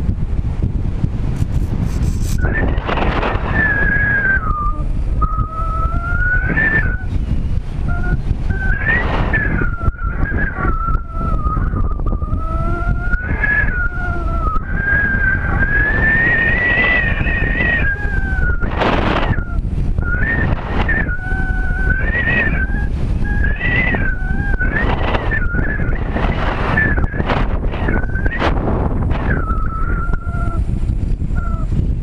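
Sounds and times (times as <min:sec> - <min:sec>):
air rushing past glider: 0:00.0 - 0:32.0
high whistle of passing air: 0:01.9 - 0:30.7.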